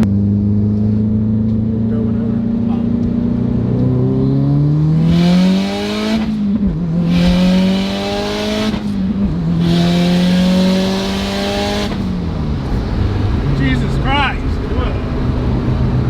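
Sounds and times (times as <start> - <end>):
car engine revving at full throttle: 0.0 - 16.0.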